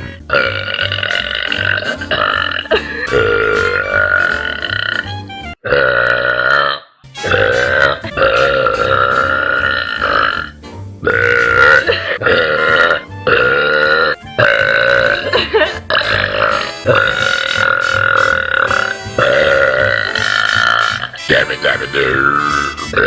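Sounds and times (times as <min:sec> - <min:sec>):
person belching loudly: 0:00.0 - 0:23.0.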